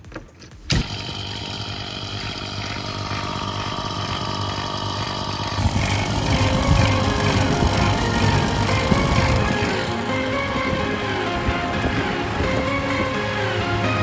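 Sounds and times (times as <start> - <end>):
vacuum pump motor humming: 0.7 - 14.0.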